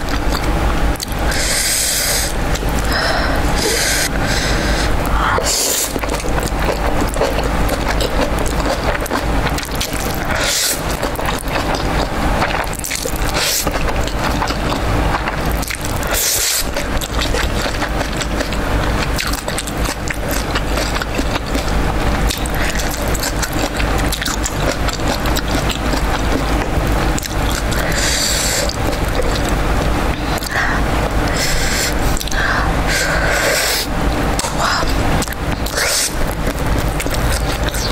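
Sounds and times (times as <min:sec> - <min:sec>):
noodle slurping: 0:00.0 - 0:37.9
wet chewing of noodles: 0:00.0 - 0:37.9.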